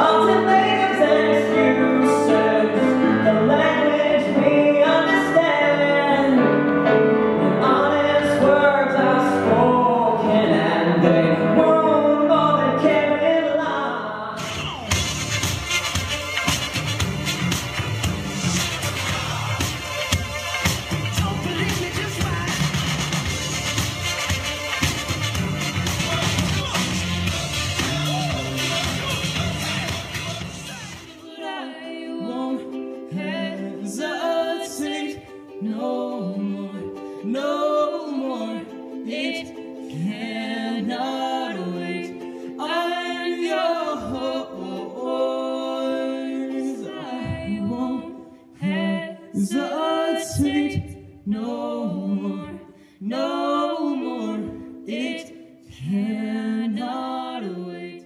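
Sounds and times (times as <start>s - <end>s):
man and woman singing duet: 0.0s - 14.7s, 21.1s - 22.8s, 25.8s - 58.0s
ukulele chords: 0.0s - 57.8s.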